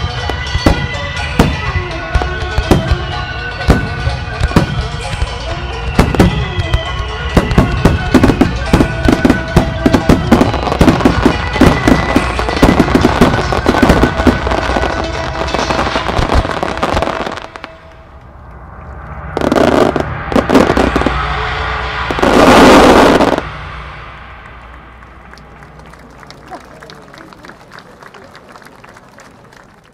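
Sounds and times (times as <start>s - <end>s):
crowd applause and cheering: 0.0s - 29.9s.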